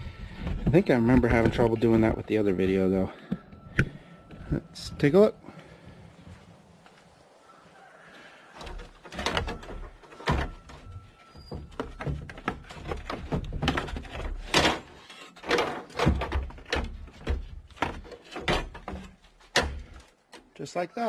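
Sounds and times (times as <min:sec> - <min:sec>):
radiator clunking and scraping: 0:00.0 - 0:05.2, 0:08.6 - 0:20.5.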